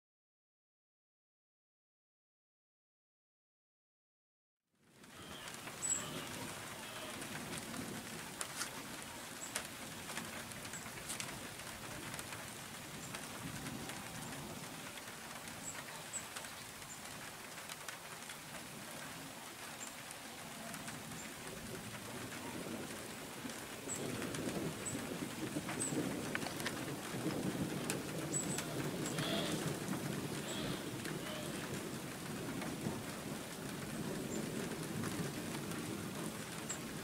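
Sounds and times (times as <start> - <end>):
steady rain: 4.8 - 37.0
raindrop taps: 5.0 - 37.0.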